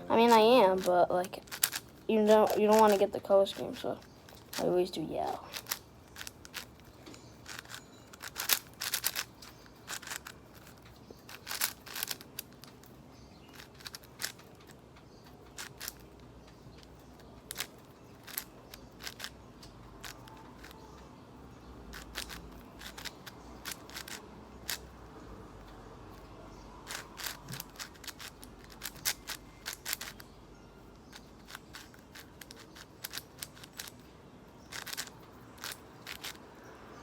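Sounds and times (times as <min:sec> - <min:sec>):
puzzle cube layers clicking: 0:00.2 - 0:21.0, 0:21.9 - 0:24.9, 0:26.8 - 0:30.3, 0:31.0 - 0:34.1, 0:34.7 - 0:36.4.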